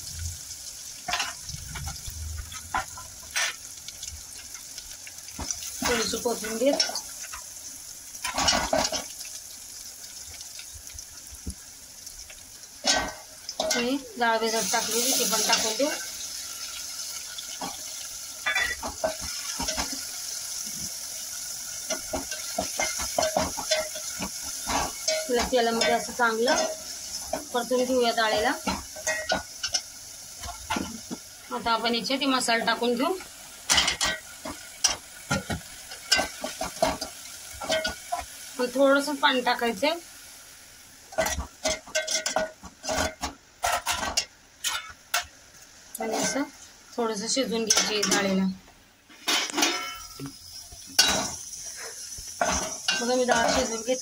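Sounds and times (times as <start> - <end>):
lentils sizzling in oil: 0.0 - 54.0.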